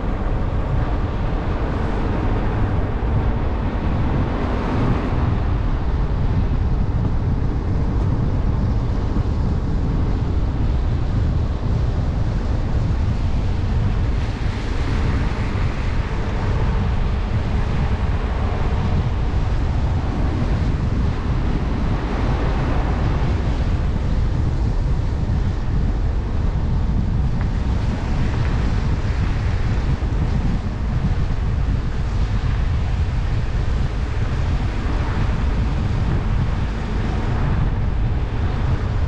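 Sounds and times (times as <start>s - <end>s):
car driving along road: 0.0s - 39.0s
tyre and road noise: 0.0s - 39.0s
wind buffeting microphone: 0.0s - 39.0s.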